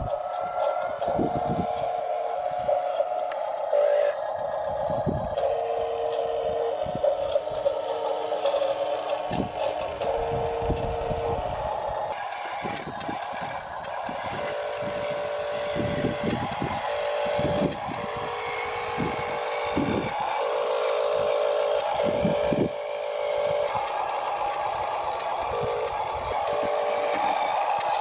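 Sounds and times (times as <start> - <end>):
small electric motors whining: 0.0 - 28.0.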